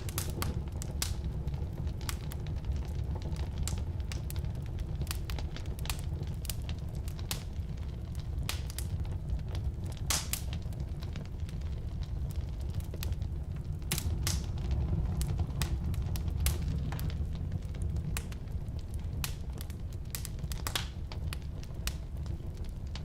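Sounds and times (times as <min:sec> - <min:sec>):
flames rumbling: 0:00.0 - 0:23.0
wood popping and crackling: 0:00.0 - 0:23.0.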